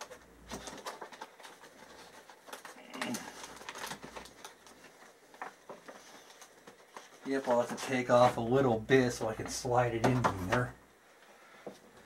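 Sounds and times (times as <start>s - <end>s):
paper rustling: 0.0s - 10.6s.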